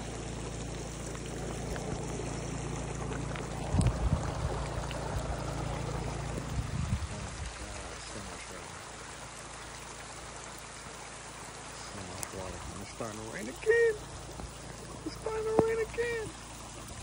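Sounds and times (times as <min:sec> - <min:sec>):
water trickling over gravel: 0:00.0 - 0:17.0.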